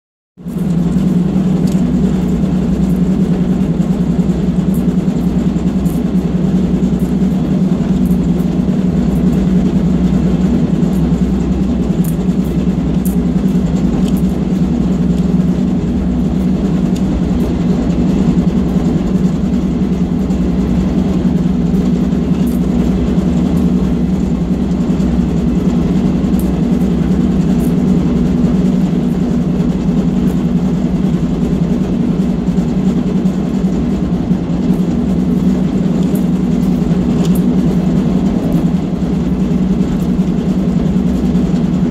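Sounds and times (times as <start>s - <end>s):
diesel locomotive drone: 0.4s - 41.9s.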